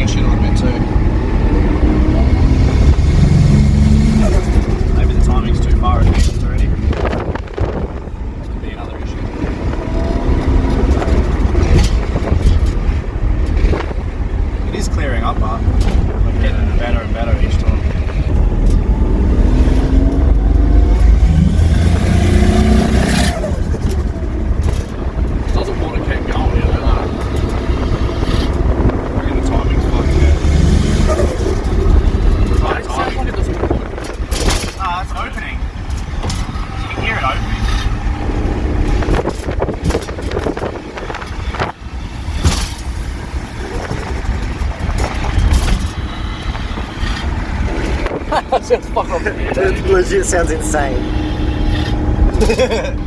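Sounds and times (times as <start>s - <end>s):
car engine accelerating hard: 0.0s - 53.0s.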